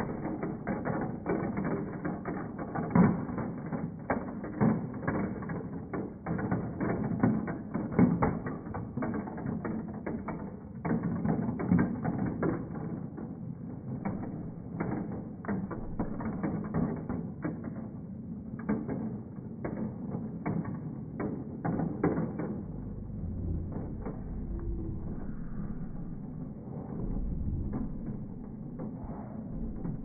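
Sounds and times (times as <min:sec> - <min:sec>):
steel balls clattering in marble run: 0:00.0 - 0:29.0.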